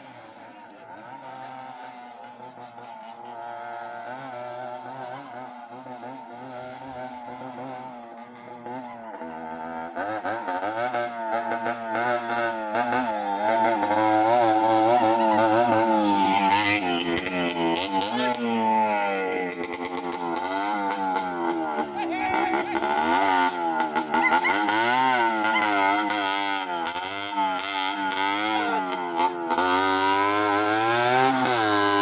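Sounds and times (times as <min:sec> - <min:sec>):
motorcycle engine approaching: 0:00.0 - 0:32.0.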